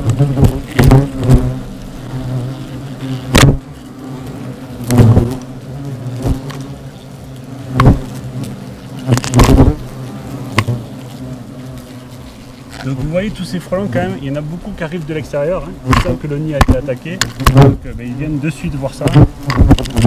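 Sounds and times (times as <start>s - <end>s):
hornet flying close past: 0.0s - 20.0s
hornets buzzing: 0.0s - 20.0s.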